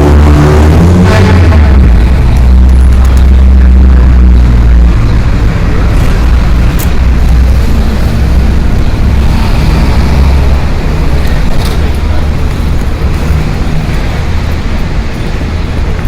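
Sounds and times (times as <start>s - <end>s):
road noise: 0.0s - 16.0s
traffic passing: 0.0s - 16.0s.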